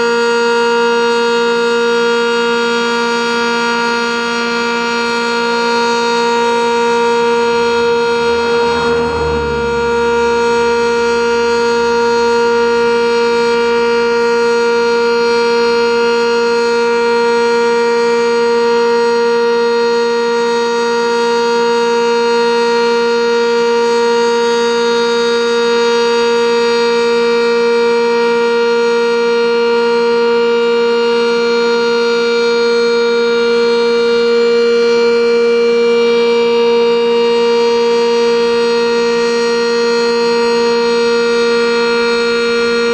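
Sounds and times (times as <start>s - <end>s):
warning siren steady tone: 0.0s - 42.9s.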